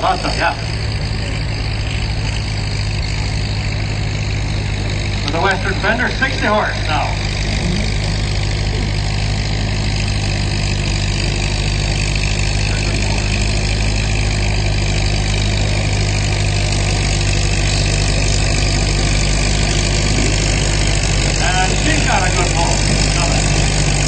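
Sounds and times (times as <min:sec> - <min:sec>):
tractor engine under heavy load: 0:00.0 - 0:24.0.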